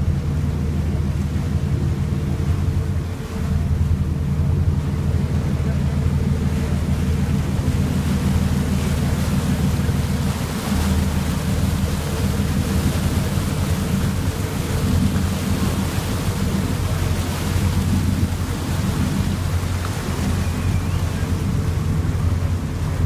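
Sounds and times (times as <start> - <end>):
boat engine drone: 0.0 - 23.0
rushing water of wake: 0.0 - 23.0.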